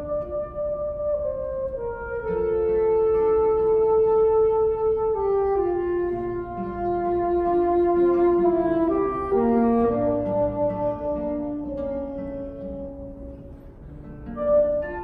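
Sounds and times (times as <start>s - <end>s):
alto saxophone long notes: 0.0s - 15.0s
classical guitar notes: 0.0s - 15.0s.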